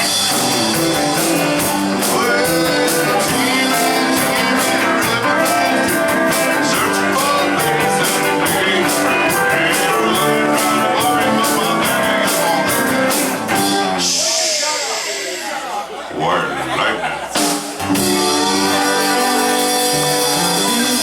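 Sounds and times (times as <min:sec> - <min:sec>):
country band playing: 0:00.0 - 0:21.0.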